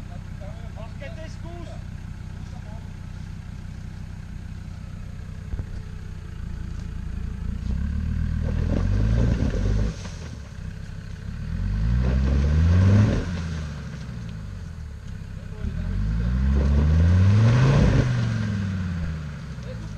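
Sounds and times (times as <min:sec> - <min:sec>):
diesel engine running and revving: 0:00.0 - 0:19.9.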